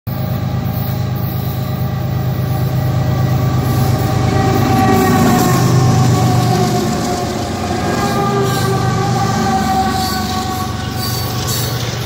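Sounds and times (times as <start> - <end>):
diesel locomotive engines rumbling: 0.1 - 12.0
pitched engine whine: 0.1 - 12.0.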